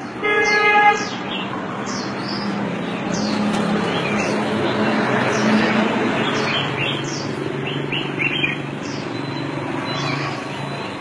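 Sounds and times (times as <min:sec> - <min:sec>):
low hum of street noise: 0:00.0 - 0:11.0
small birds chirping: 0:00.0 - 0:11.0.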